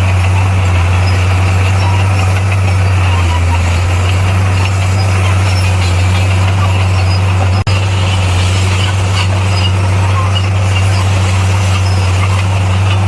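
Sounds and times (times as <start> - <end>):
diesel engine droning under load: 0.0 - 13.0.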